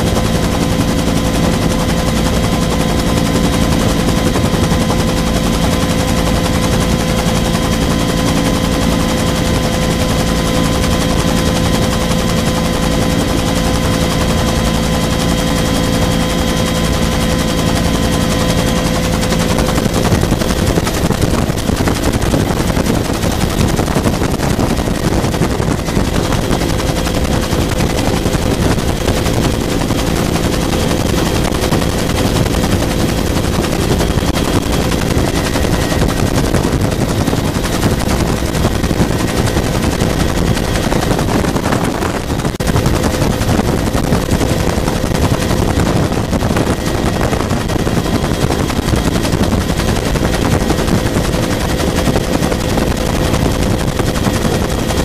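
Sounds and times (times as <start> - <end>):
helicopter rotor blades beating: 0.0 - 55.0
turbine whine: 0.0 - 55.0.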